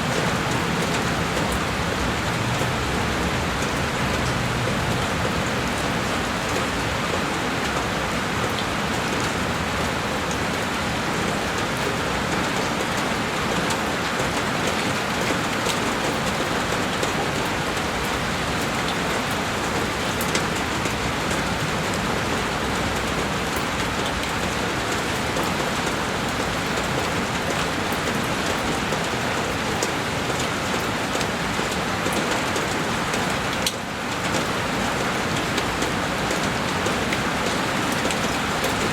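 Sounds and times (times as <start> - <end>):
heavy rain on a window: 0.0 - 38.9.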